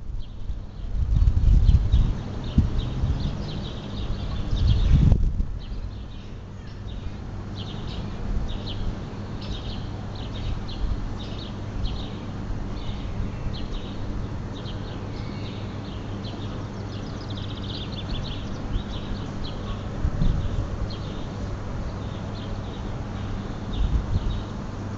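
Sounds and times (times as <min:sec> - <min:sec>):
steady low hum: 0:00.0 - 0:24.9
small birds chirping: 0:00.2 - 0:24.8.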